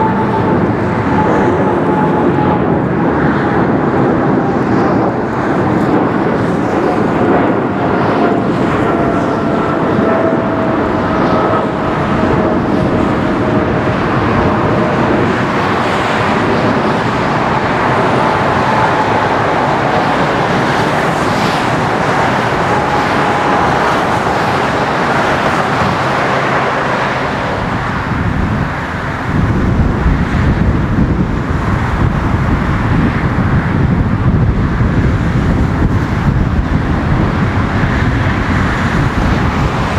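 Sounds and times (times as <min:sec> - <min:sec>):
deeper jet engine rumble: 0:00.0 - 0:39.9
jet engines roaring: 0:00.0 - 0:39.9.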